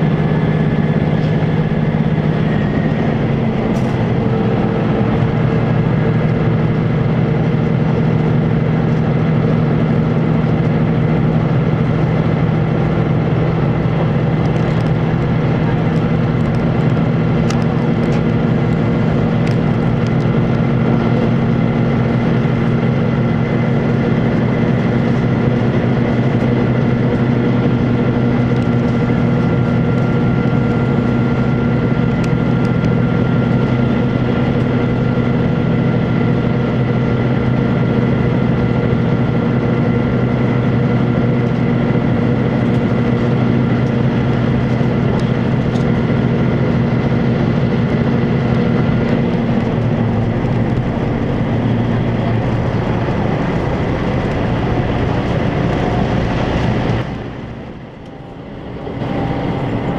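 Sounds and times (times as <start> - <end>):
diesel engine drone: 0.0 - 59.9
rail and wheel noise: 0.0 - 59.9.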